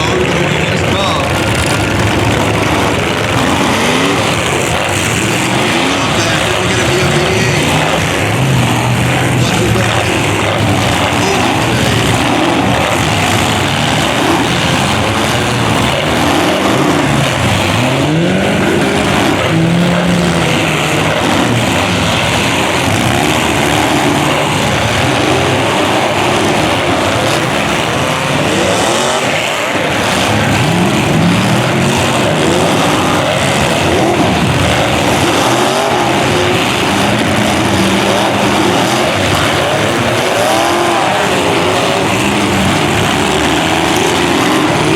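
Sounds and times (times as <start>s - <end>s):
car engines revving: 0.0s - 44.9s
engine and tyre noise: 0.0s - 44.9s.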